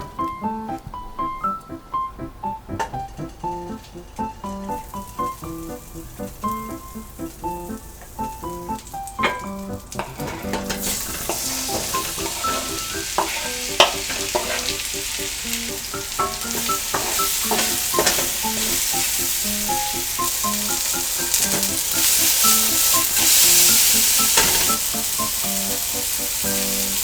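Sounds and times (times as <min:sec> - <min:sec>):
soft background music: 0:00.0 - 0:27.0
food sizzling in frying pan: 0:03.6 - 0:27.0.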